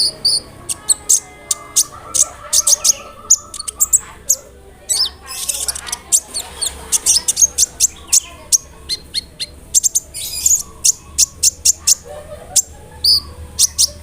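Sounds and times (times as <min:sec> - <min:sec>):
bird chirping high: 0:00.0 - 0:14.0.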